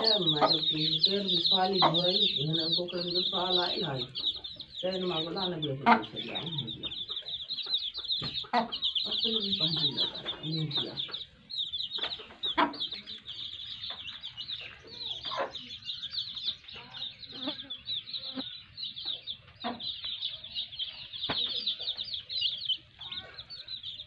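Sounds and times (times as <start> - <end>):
chicks peeping: 0.0 - 24.0
hen clucking: 0.0 - 24.0.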